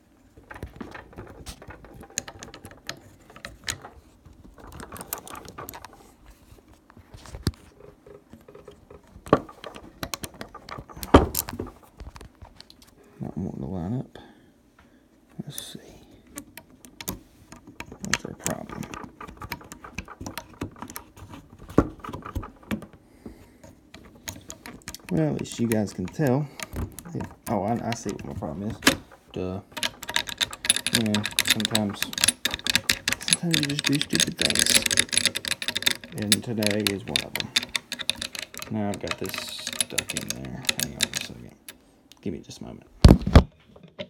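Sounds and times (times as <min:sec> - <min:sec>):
metal rifle parts clicking: 0:00.4 - 0:12.8, 0:16.3 - 0:41.8, 0:43.0 - 0:44.0.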